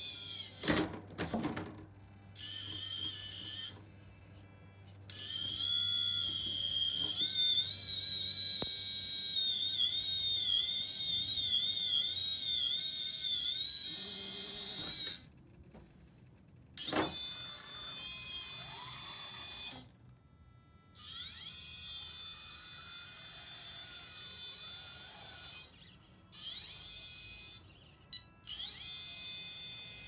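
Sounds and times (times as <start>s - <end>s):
electric motor whine: 2.0s - 15.3s, 16.8s - 30.0s.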